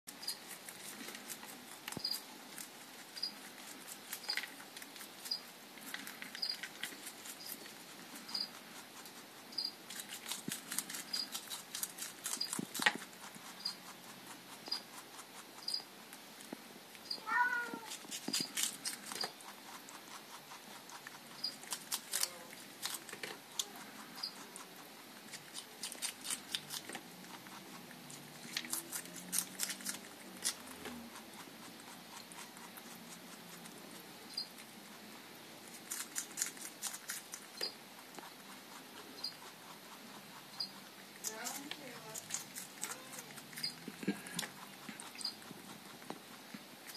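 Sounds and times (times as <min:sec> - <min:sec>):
rabbit crunching salad: 0:00.0 - 0:46.9.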